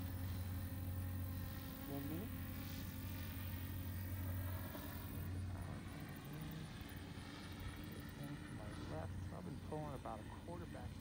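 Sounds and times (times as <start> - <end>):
electric motors and propellers buzzing: 0.0 - 11.0.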